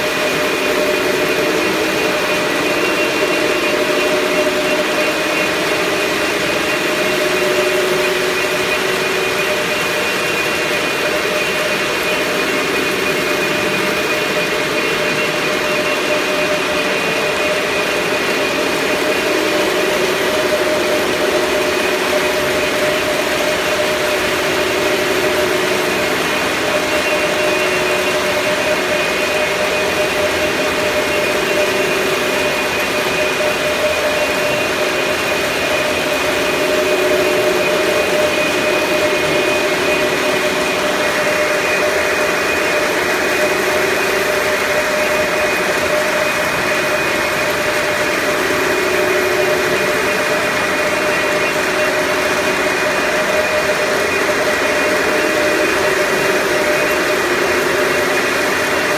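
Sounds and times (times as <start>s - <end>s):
steady machine whine: 0.0s - 58.9s.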